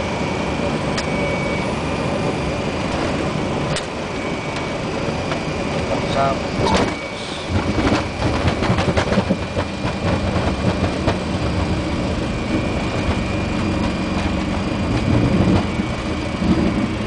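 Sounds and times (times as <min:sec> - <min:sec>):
jet engines humming: 0:00.0 - 0:17.0
wheels rumbling on runway: 0:00.0 - 0:17.0.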